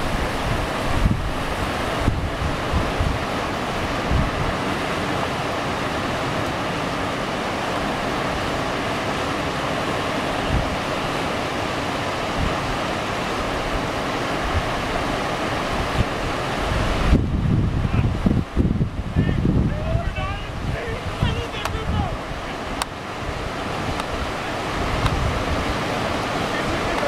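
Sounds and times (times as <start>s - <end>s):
whitewater rapids rushing: 0.0s - 27.0s
wind buffeting microphone: 0.0s - 27.0s.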